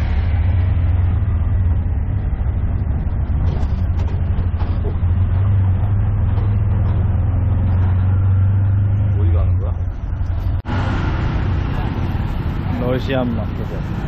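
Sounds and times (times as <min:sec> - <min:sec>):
auto-rickshaw engine droning: 0:00.0 - 0:14.0
road noise: 0:00.0 - 0:14.0.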